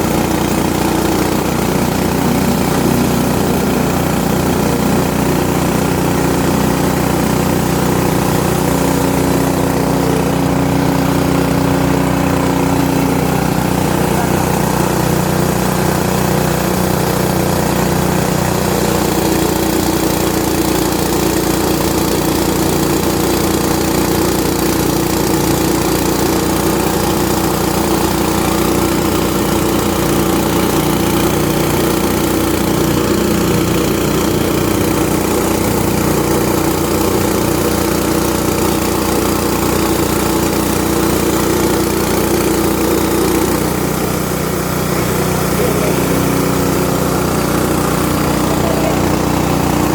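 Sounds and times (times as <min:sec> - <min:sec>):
petrol engine running under load: 0:00.0 - 0:49.9
steady hum: 0:00.0 - 0:49.9.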